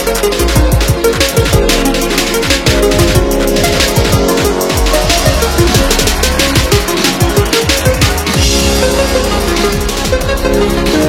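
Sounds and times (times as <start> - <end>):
drum and bass electronic music: 0.0 - 11.0.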